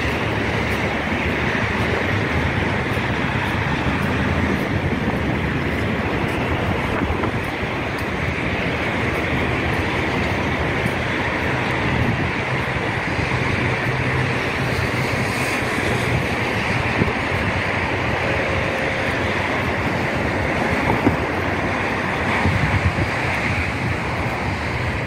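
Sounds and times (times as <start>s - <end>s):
road traffic rumble: 0.0s - 25.0s
wind noise on microphone: 0.0s - 25.0s.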